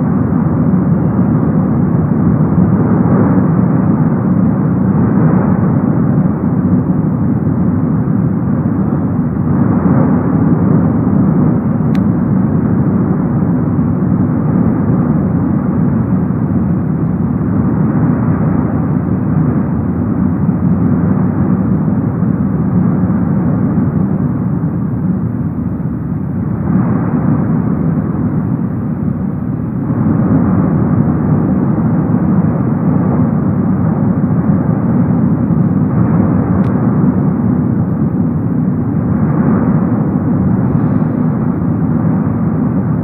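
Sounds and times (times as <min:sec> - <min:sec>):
deep volcanic rumble: 0:00.0 - 0:43.0.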